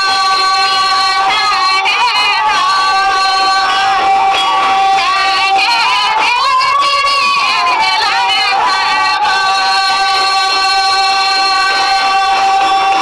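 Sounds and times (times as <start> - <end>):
high voice singing held notes: 0.0 - 13.0
instrumental backing: 0.0 - 13.0.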